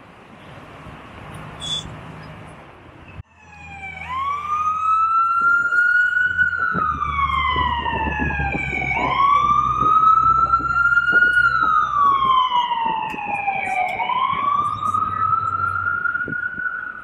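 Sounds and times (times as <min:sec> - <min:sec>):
low traffic rumble: 0:00.0 - 0:17.0
emergency siren wailing: 0:03.3 - 0:17.0.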